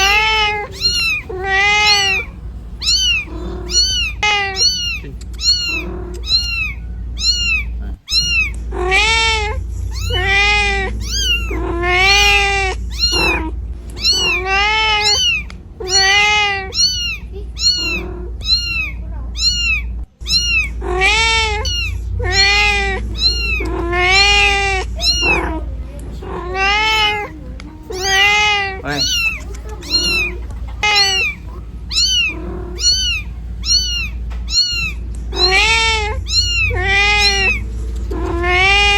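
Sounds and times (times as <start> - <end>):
cat meowing: 0.0 - 38.9
steady low rumble: 0.0 - 38.9.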